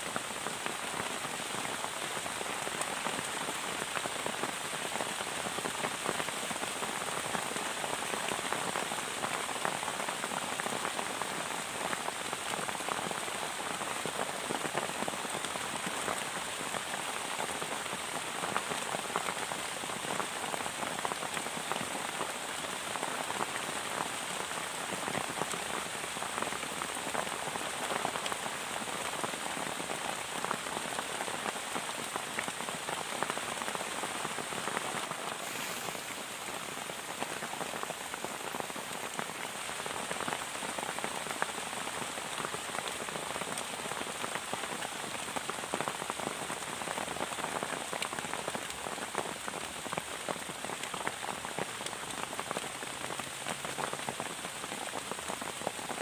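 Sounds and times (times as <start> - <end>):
heavy rain on plastic tarp: 0.0 - 56.0.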